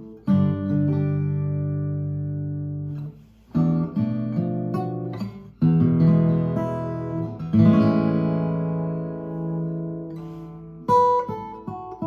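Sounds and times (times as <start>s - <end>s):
fingerpicked acoustic guitar: 0.0s - 12.0s.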